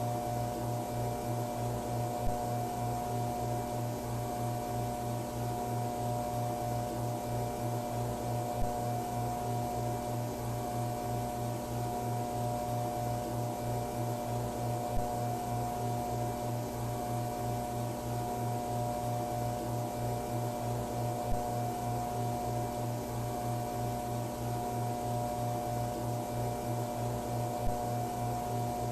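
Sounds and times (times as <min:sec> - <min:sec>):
fluorescent lights buzzing: 0:00.0 - 0:28.9.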